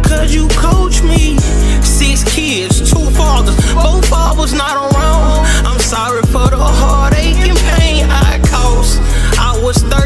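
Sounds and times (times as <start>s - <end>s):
deep sustained bass: 0.0s - 10.0s
hip hop beat: 0.0s - 10.0s
pitch-bending melodic line: 0.4s - 9.0s.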